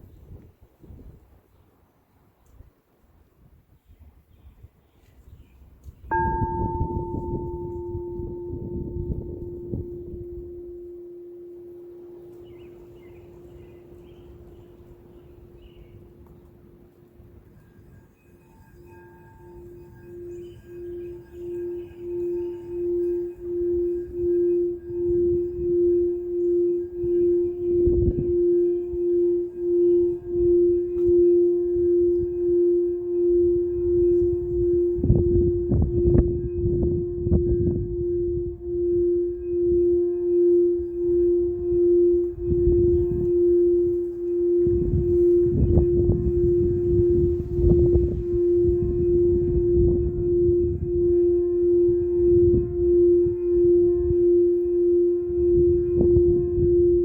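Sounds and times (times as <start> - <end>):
low rumbling noise: 6.1 - 16.9, 19.5 - 57.0
singing bowl ringing: 6.1 - 57.0.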